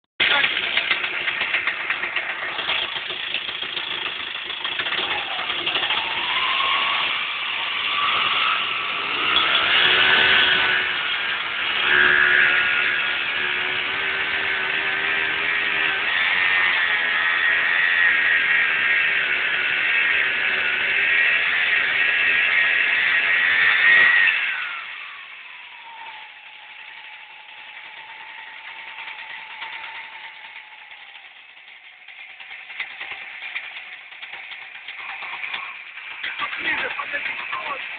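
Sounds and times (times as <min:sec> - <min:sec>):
scooter engine revving: 0:00.2 - 0:37.9.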